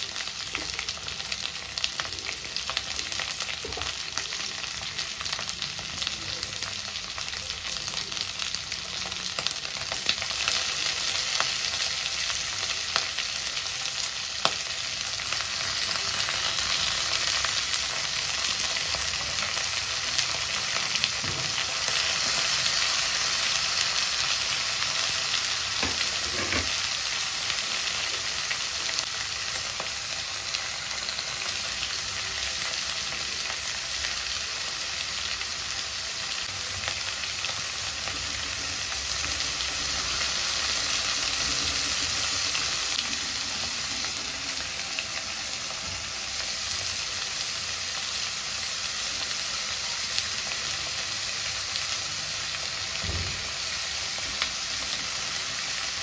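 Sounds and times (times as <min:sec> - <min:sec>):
onions and tomatoes sizzling: 0:00.0 - 0:56.0.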